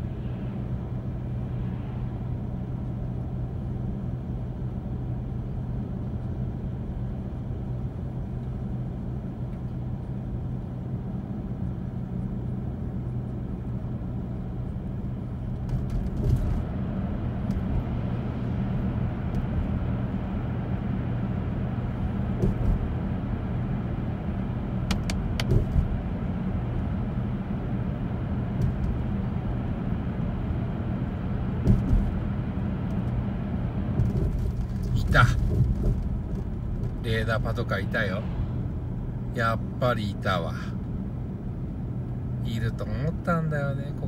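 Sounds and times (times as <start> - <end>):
car cabin road and engine noise: 0.0 - 44.0.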